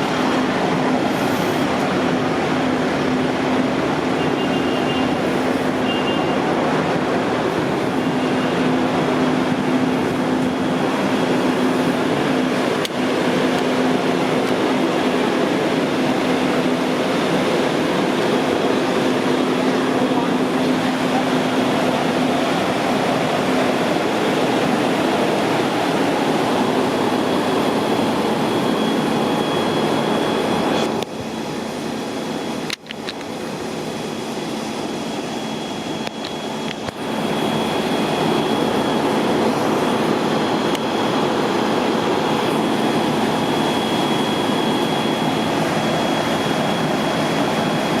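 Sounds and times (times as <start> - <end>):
water rushing from broken main: 0.0 - 48.0.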